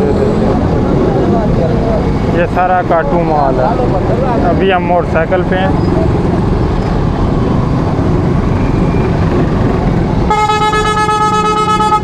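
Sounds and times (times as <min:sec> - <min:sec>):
motorcycle engine and wind: 0:00.0 - 0:12.0.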